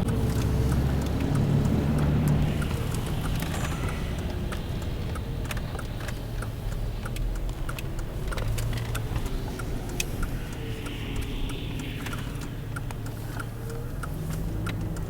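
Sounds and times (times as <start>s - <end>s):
diesel truck engines idling: 0.0s - 15.0s
sharp ticks: 0.0s - 15.0s.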